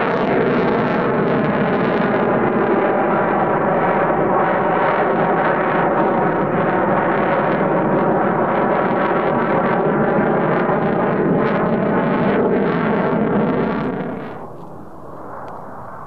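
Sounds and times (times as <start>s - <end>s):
loud jet engine roar: 0.0s - 16.0s.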